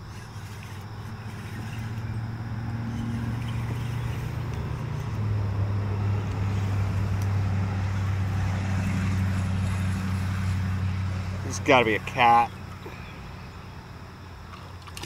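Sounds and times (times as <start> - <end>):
motor engine droning: 0.0 - 15.0.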